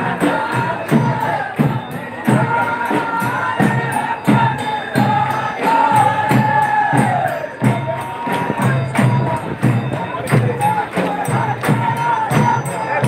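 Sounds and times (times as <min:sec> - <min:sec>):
drum beating steadily: 0:00.0 - 0:13.0.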